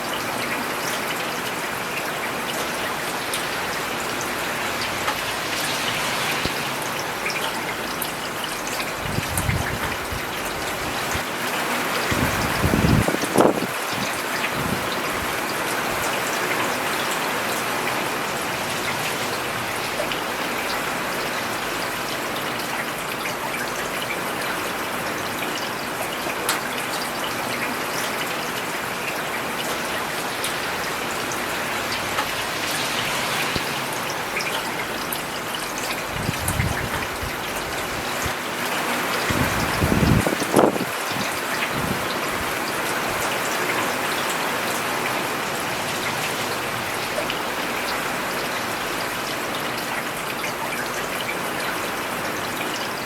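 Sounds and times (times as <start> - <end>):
rain falling on pavement: 0.0 - 53.0.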